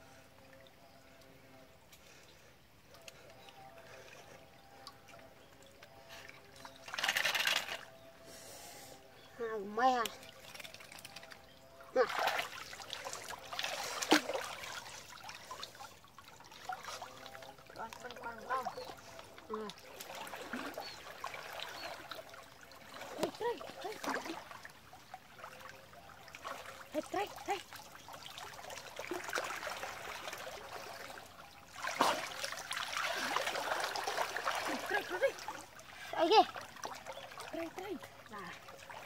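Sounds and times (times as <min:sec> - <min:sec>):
creek water trickling: 0:00.0 - 0:39.0
small splashes: 0:04.0 - 0:08.0, 0:09.8 - 0:39.0.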